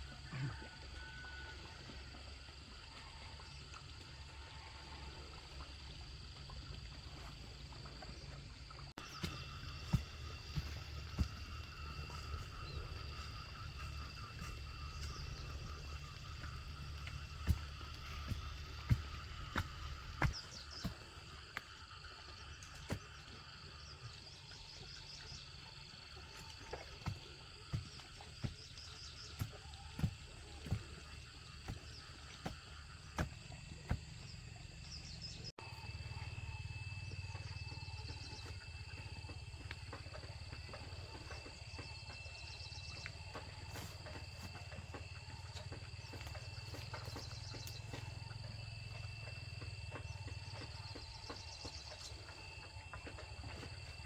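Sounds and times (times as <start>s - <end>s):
forest insects droning: 0.0s - 54.0s.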